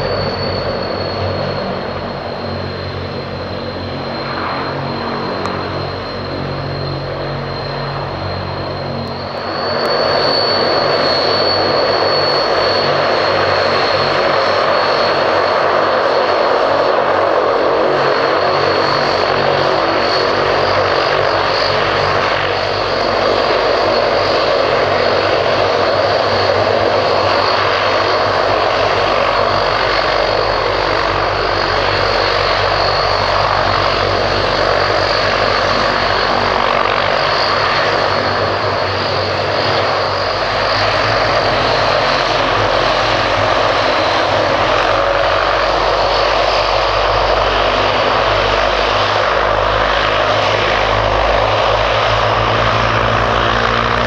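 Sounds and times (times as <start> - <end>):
high turbine whine: 0.0 - 54.0
turboprop engines at takeoff power: 0.0 - 54.0.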